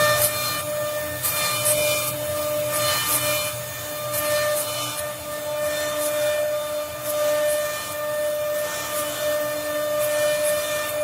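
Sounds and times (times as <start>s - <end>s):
router spindle whine: 0.0s - 11.0s.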